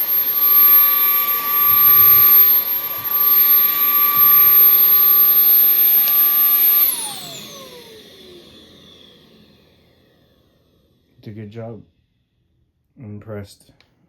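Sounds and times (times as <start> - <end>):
vacuum cleaner motor whine: 0.0 - 11.3.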